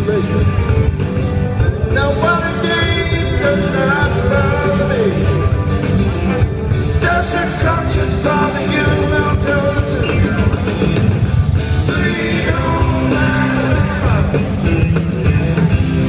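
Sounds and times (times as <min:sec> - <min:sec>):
lead guitar bending: 0:00.0 - 0:16.0
rock band playing: 0:00.0 - 0:16.0.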